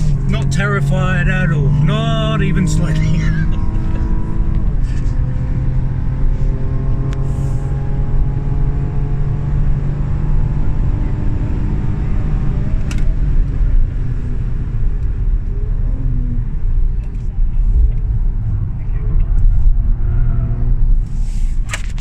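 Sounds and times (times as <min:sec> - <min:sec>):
car engine running hard: 0:00.0 - 0:22.0
road and tyre noise: 0:00.0 - 0:22.0.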